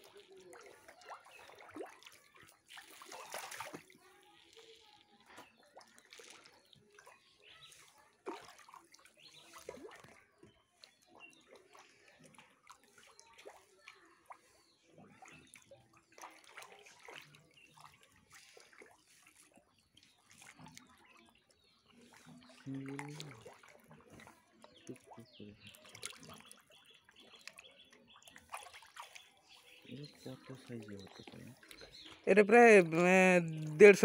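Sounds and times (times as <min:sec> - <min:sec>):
fish splashing at water surface: 0:00.0 - 0:32.0.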